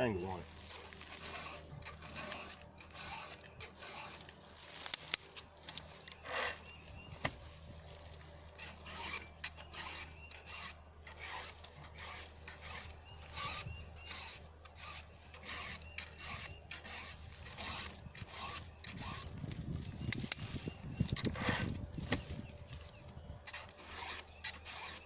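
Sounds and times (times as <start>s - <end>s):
file scraping chainsaw chain: 0.0s - 7.0s, 7.7s - 25.0s.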